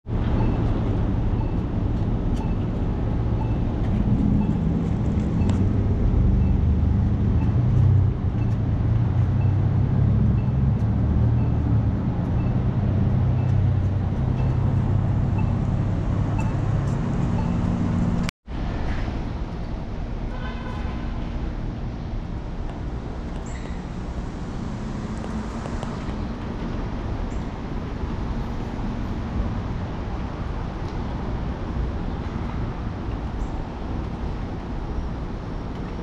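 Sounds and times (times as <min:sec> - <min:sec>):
traffic engine rumble: 0:00.0 - 0:36.0.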